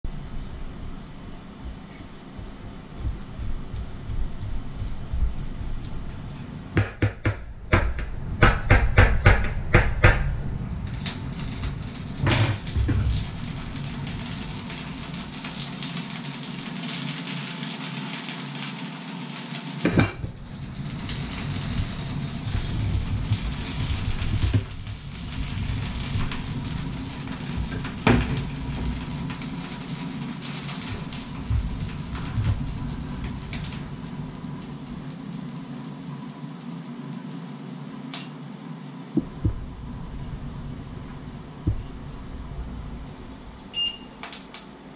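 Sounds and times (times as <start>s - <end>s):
steady hiss: 0.1s - 44.9s.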